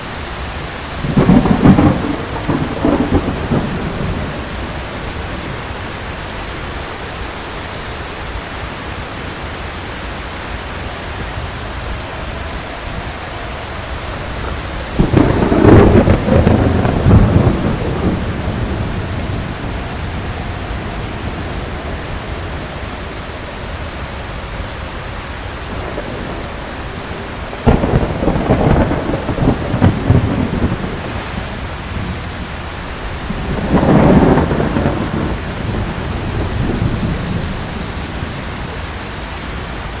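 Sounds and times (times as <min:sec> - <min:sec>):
heavy rain: 0:00.0 - 0:40.0
thunder rumbling: 0:00.0 - 0:40.0.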